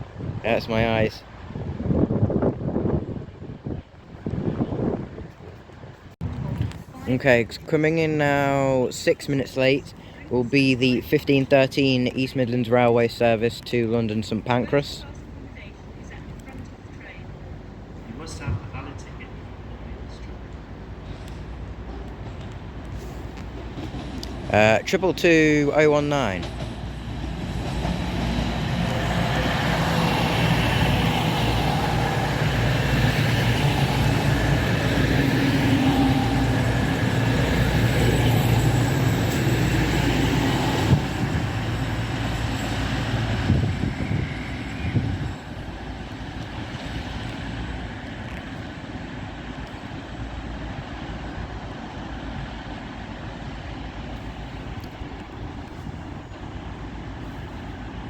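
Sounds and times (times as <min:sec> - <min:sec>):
diesel train engine rumbling: 0:00.0 - 0:58.0.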